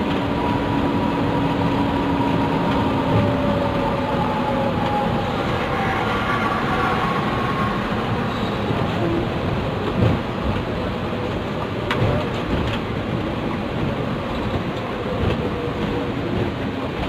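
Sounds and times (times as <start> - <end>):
coach engine and road noise: 0.0 - 17.0.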